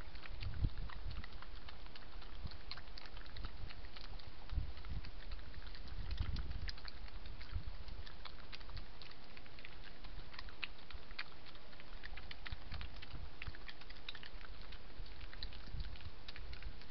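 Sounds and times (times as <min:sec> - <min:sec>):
animals crunching peanuts: 0:00.0 - 0:16.9
low steady rumble: 0:00.0 - 0:16.9.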